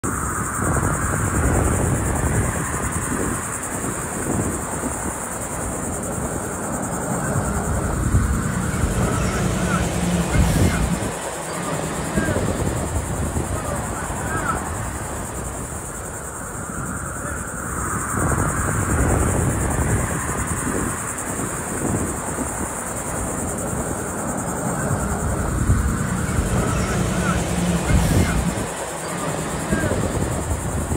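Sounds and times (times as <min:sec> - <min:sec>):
distant helicopter rumble: 0:00.0 - 0:30.9
high-pitched insect buzz: 0:00.1 - 0:30.9.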